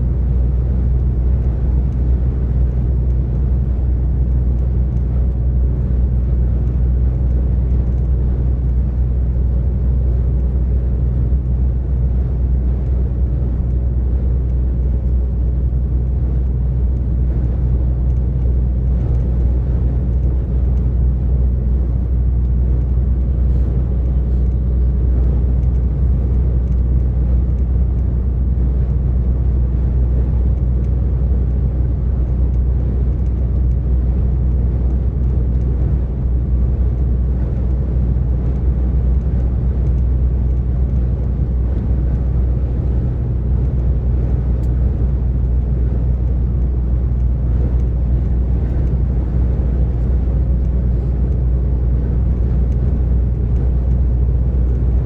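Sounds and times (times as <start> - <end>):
lorry diesel engine drone: 0.0 - 55.0
tyre and road noise: 0.0 - 55.0.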